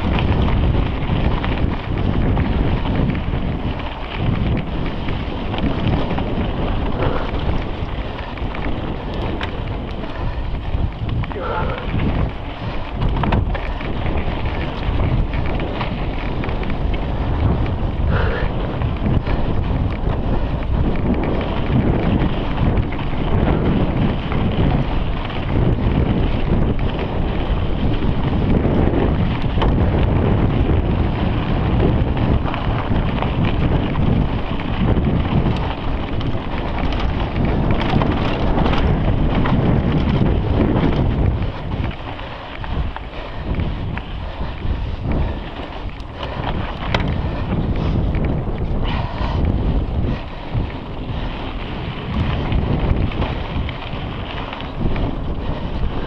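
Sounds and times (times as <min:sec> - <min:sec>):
bike tyres rumbling and rattling: 0:00.0 - 0:56.0
wind buffeting microphone: 0:00.0 - 0:56.0.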